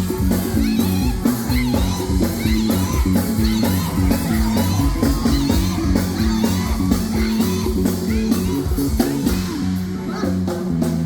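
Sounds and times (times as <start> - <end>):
drum beat: 0.0 - 9.8
person singing: 0.0 - 10.7
bass line: 0.0 - 11.0
electric guitar: 0.0 - 11.0.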